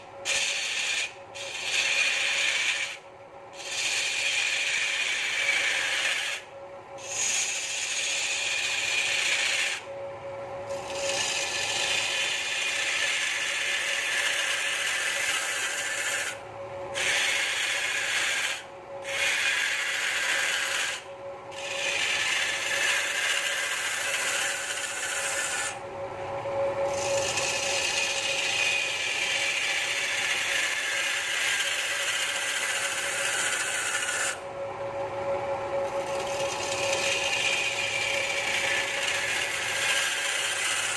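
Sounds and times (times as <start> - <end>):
lathe tool scraping wood: 0.0 - 3.0, 3.6 - 9.9, 10.7 - 16.4, 17.0 - 25.8, 26.9 - 34.4, 35.7 - 40.9
lathe hum: 0.0 - 40.9.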